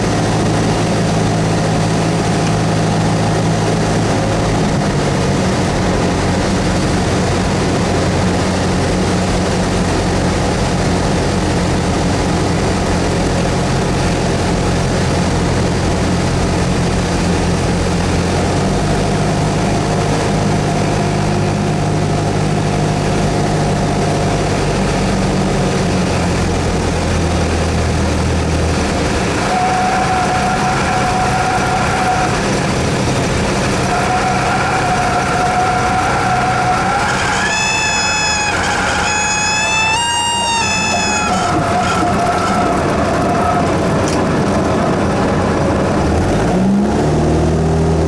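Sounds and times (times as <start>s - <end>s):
airplane engine and propeller: 0.0s - 48.0s.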